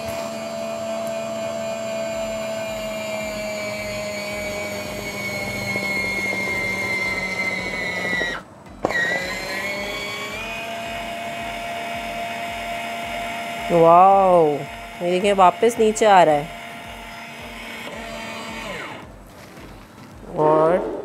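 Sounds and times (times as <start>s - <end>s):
juicer motor whining: 0.0s - 20.2s.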